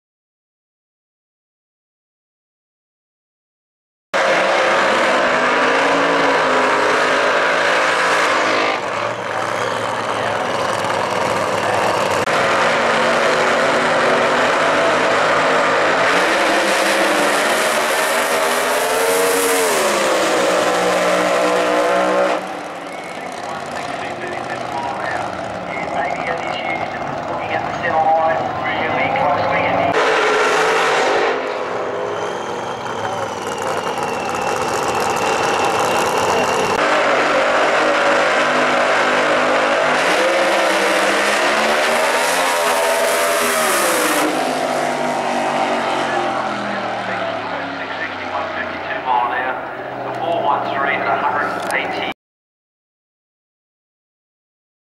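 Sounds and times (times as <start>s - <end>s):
drag racing engines at full throttle: 4.2s - 52.1s.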